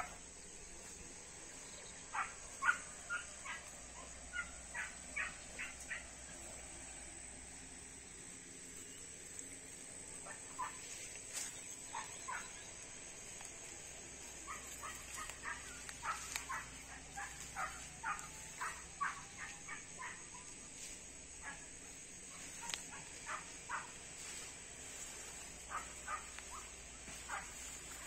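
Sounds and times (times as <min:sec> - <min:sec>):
steady high hiss: 0:00.0 - 0:28.0.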